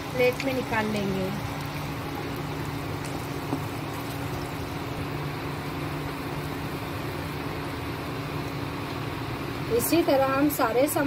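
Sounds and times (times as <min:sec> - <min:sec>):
cooktop cooling fan hum: 0:00.0 - 0:11.0
oil frying: 0:00.0 - 0:11.0.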